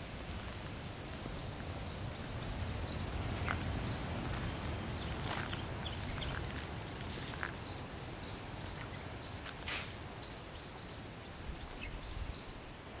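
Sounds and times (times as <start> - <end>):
wind rumble on microphone: 0.0 - 9.4, 10.0 - 13.0
high insect whine: 0.0 - 13.0
birds chirping: 1.4 - 13.0.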